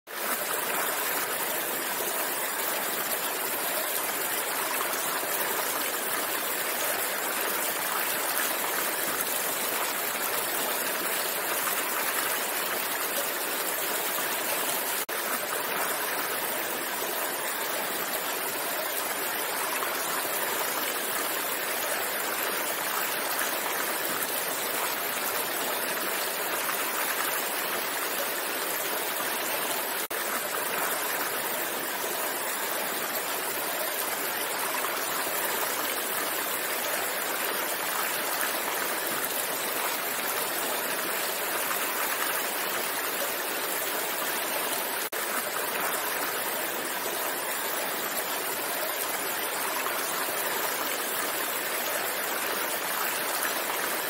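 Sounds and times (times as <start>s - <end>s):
stream rushing over rocks: 0.1s - 54.0s.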